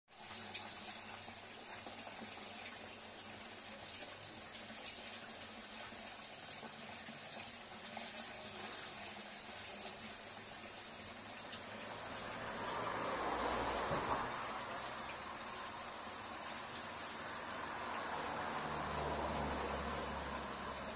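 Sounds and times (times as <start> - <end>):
running water: 0.1 - 20.9.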